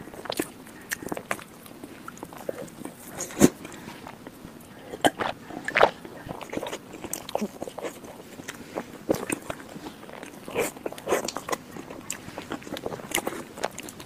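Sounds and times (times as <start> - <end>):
wet chewing mouth sounds: 0.0 - 14.0.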